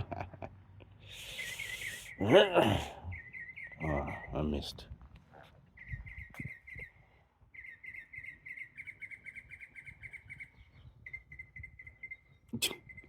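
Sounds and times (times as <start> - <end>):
mockingbird singing chirpy notes: 1.1 - 4.6, 5.8 - 13.0.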